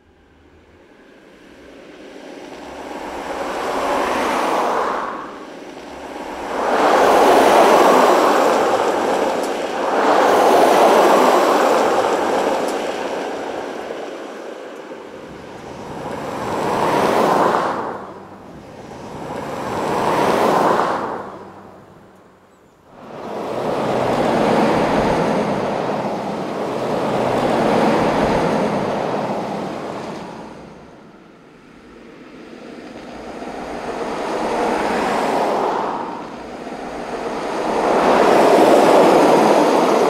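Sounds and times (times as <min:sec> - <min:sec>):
cars passing on freeway: 0:00.0 - 0:40.0.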